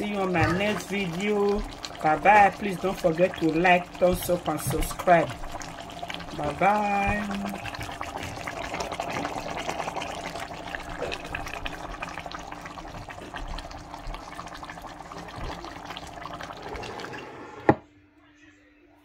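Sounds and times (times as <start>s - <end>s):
soup bubbling in a pot: 0.0s - 17.8s.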